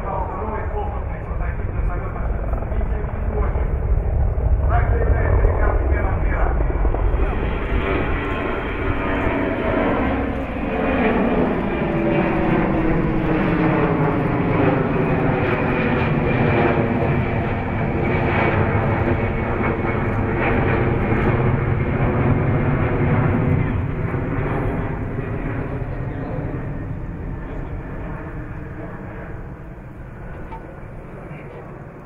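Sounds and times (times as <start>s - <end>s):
jet aircraft flying overhead: 0.0s - 32.0s.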